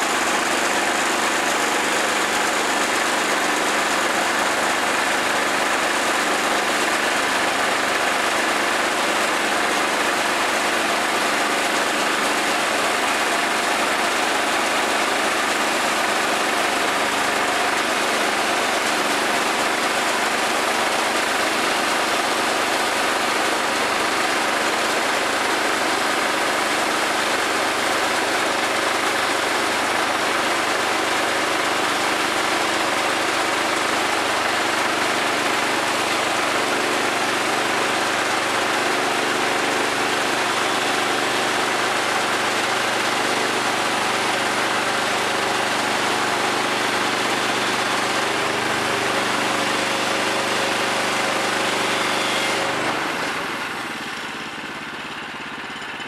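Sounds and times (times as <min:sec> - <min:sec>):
band sawmill cutting log: 0:00.0 - 0:56.0.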